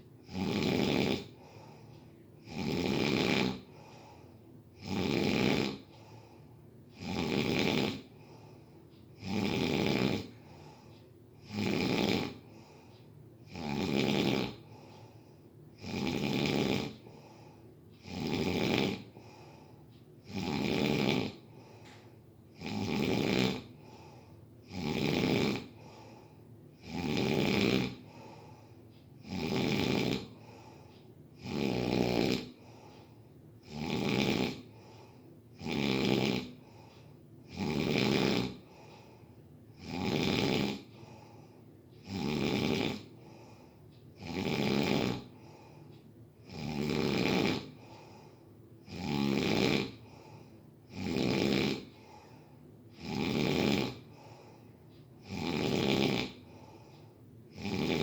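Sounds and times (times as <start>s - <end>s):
person snoring: 0.2s - 8.6s, 9.2s - 58.0s.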